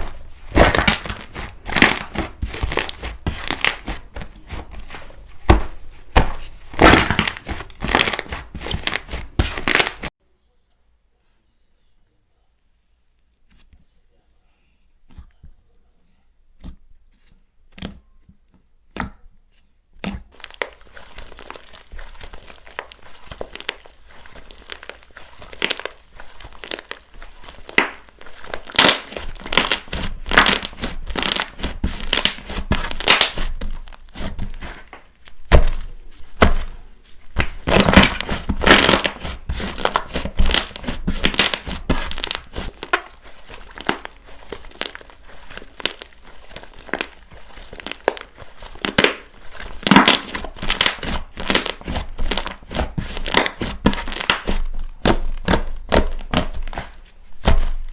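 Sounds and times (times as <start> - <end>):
slime crackling and squishing: 0.0 - 10.1, 20.0 - 57.9.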